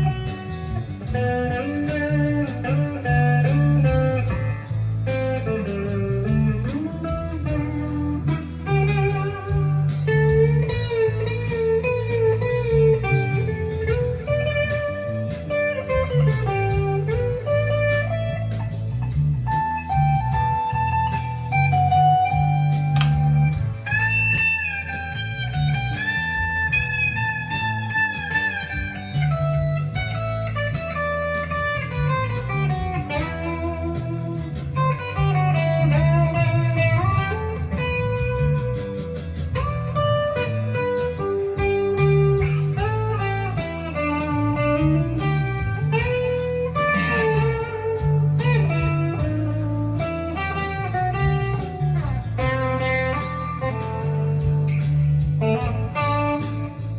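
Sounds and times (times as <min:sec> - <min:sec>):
fuzz electric guitar lead: 0:00.0 - 0:56.9.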